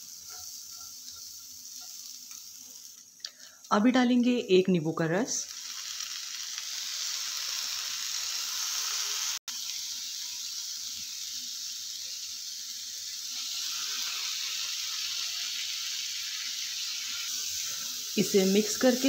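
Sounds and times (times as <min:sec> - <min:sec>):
corn sizzling in butter: 0:00.0 - 0:19.0.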